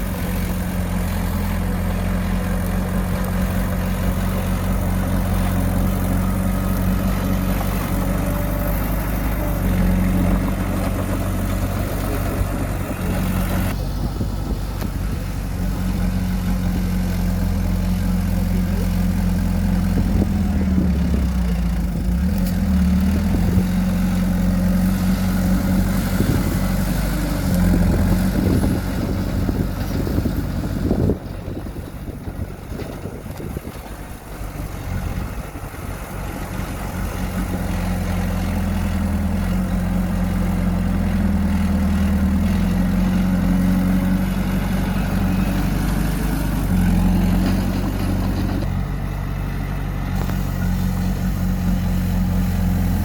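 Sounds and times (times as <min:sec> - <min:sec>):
heavy machine engine humming: 0:00.0 - 0:53.0.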